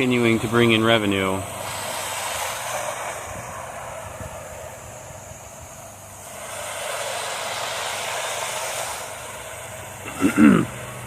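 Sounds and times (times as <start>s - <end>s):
pressure washer engine hum: 0.0s - 11.0s
pressure washer spray hiss: 0.0s - 11.0s.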